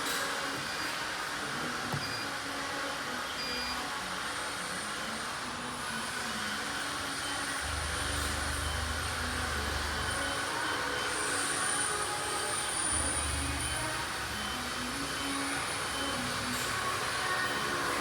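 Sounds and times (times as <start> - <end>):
cutting machine mechanical whir: 0.0 - 18.0.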